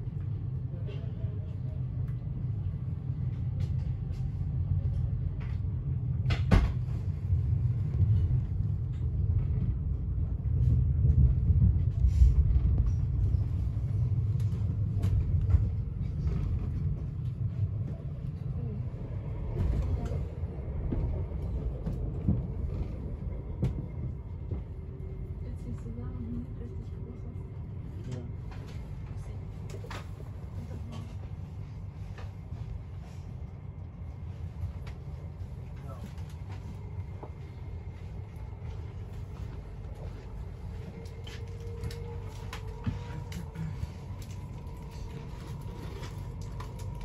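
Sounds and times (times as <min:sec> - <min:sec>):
train rumbling on rails: 0:00.0 - 0:47.0.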